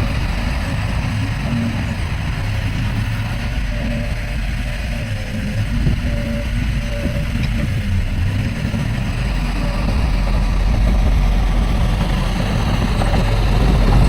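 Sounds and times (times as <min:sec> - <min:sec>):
diesel engine rumbling: 0:00.0 - 0:14.0
faint wavering whine: 0:00.0 - 0:14.0.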